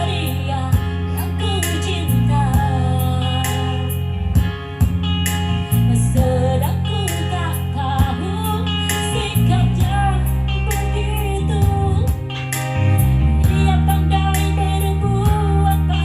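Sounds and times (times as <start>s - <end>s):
woman singing: 0.0s - 4.5s, 5.7s - 16.0s
musical backing with bass and beat: 0.0s - 16.0s.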